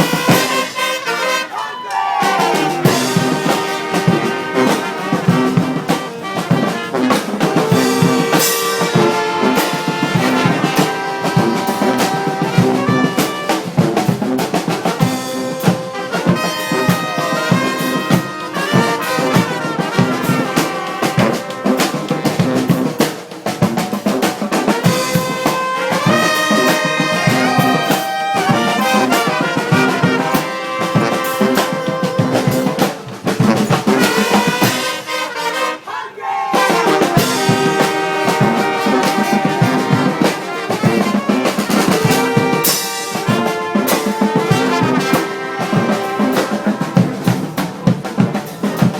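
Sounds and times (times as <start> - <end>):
driving drum beat: 0.0 - 35.6, 36.5 - 48.9
marching brass band playing: 0.0 - 48.9.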